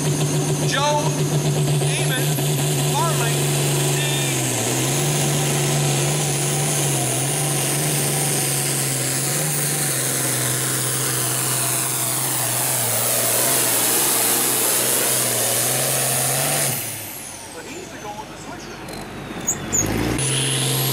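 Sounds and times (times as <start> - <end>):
tractor diesel engine drone: 0.0 - 20.9.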